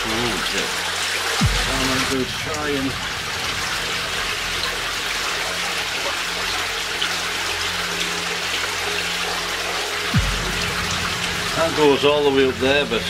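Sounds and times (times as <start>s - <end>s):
stream water running and trickling: 0.0s - 13.0s.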